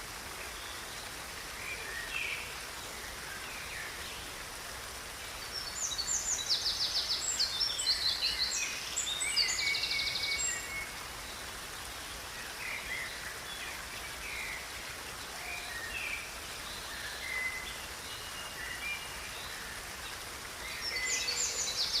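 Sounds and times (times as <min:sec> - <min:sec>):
steady background hiss: 0:00.0 - 0:22.0
songbirds singing: 0:00.4 - 0:22.0.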